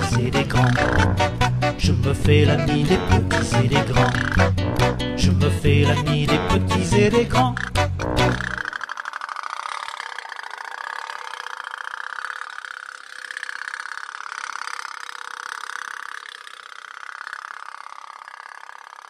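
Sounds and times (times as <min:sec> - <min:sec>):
toy steam boat putt-putt: 0:00.0 - 0:01.8, 0:02.4 - 0:05.0, 0:05.9 - 0:19.0.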